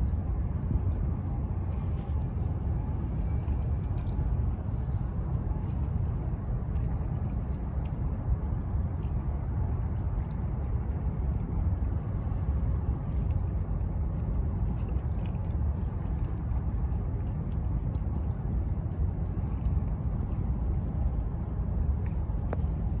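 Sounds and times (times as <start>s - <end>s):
ship engine rumble: 0.0s - 23.0s
wind buffeting microphone: 0.0s - 23.0s.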